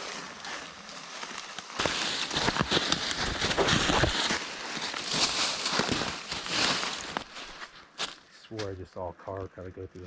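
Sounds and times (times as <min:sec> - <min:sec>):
rustling grass and twigs: 0:00.0 - 0:10.0.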